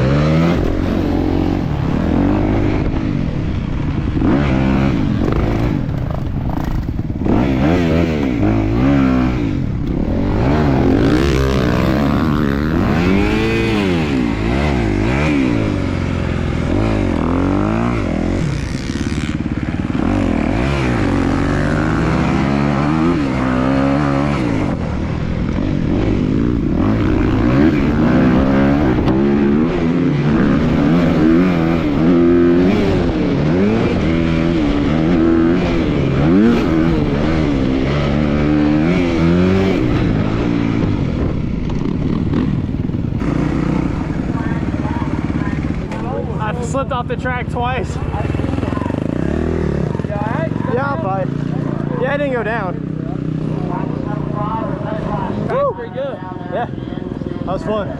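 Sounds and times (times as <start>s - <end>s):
motocross bike engine revving: 0.0s - 55.5s.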